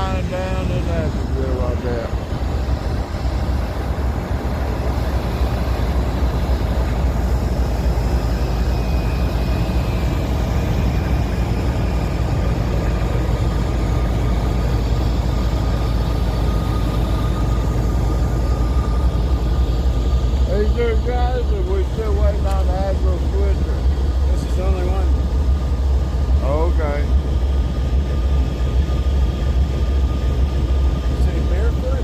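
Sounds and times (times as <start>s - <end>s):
diesel locomotive engine idling: 0.0s - 32.0s
faint whine: 0.0s - 32.0s.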